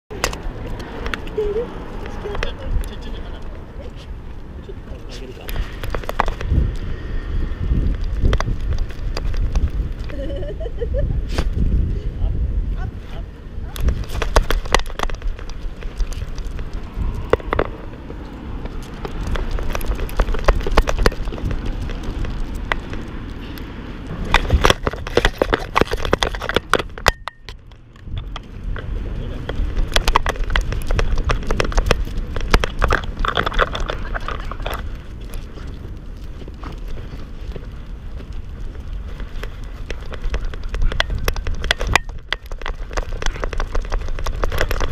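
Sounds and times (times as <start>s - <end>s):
wind rumble: 0.1s - 44.9s.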